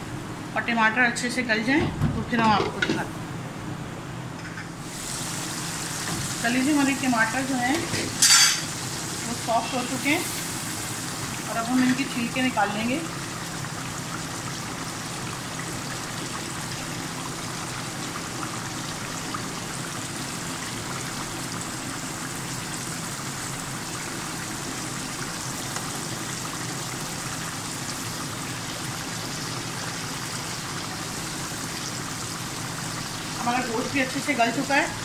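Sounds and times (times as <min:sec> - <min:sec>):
meat sizzling and bubbling in pan: 0:04.2 - 0:35.0.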